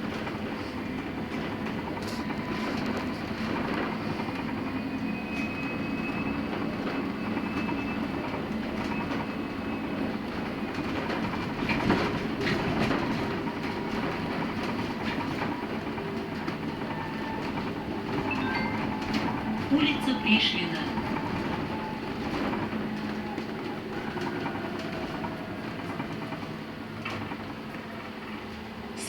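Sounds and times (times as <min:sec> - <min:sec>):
bus body rattling: 0:00.0 - 0:29.0.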